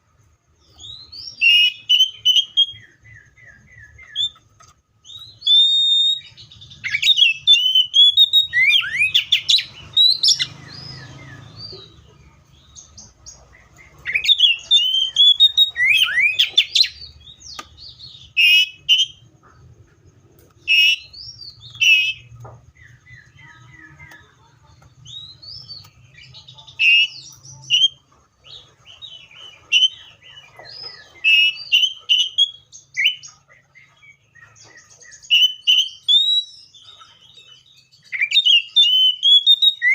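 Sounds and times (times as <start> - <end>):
bird singing whistles and chirps: 0.6 - 19.3, 20.6 - 24.4, 25.0 - 39.9.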